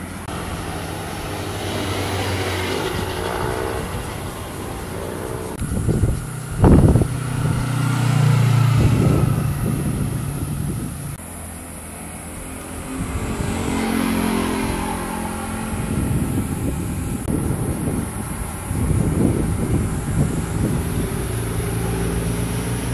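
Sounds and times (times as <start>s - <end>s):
motor vehicles passing: 0.0s - 22.9s.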